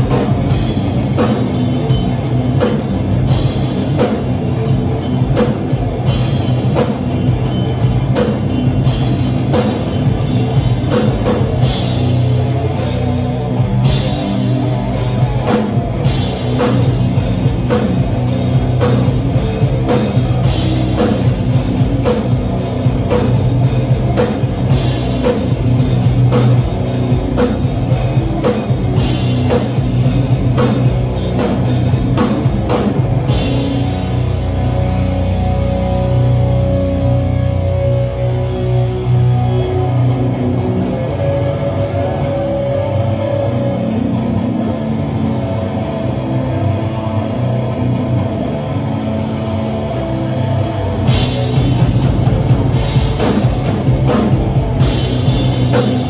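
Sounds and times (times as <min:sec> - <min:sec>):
heavy rock band playing live: 0:00.0 - 0:56.0.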